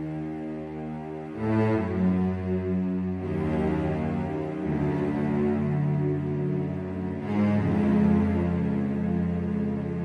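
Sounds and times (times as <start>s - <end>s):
low sustained music notes: 0.0s - 10.0s.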